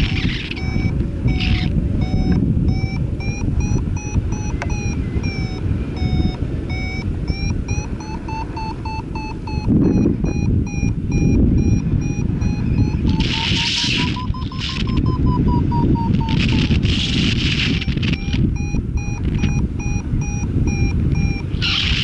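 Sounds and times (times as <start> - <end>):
variometer short beeps: 0.0 - 22.0
wind rushing on microphone: 0.0 - 22.0.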